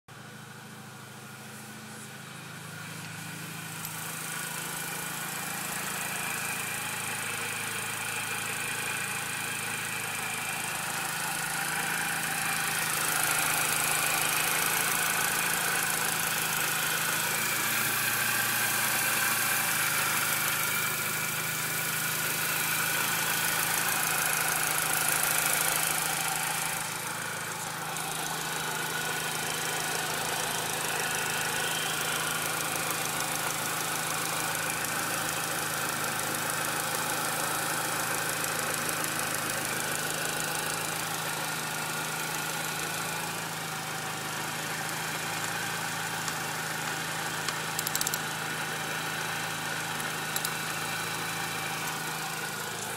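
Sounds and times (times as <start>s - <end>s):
car engine idling: 0.1s - 52.9s.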